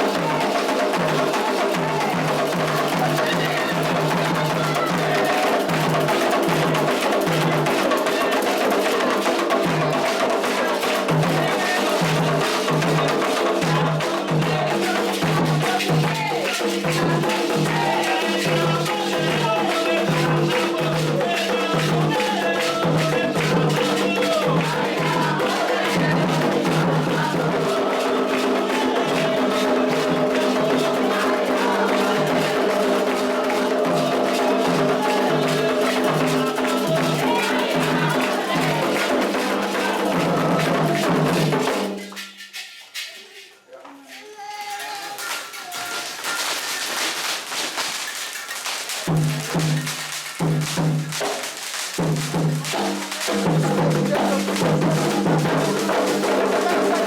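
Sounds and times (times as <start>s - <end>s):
group singing: 0.0s - 42.8s, 52.2s - 57.0s
hand drums and percussion: 0.0s - 57.0s.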